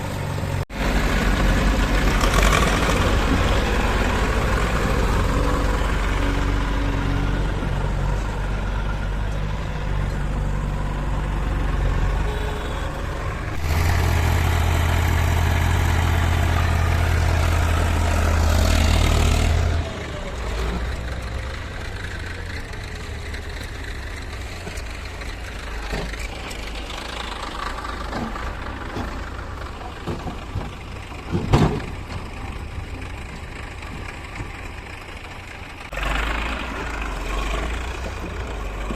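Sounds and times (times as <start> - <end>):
diesel machinery engine running: 0.0 - 38.9.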